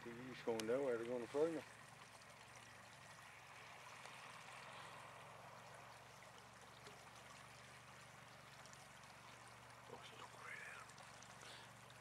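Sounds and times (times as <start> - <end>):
faint steady hiss: 0.0 - 12.0
low steady hum: 0.0 - 12.0.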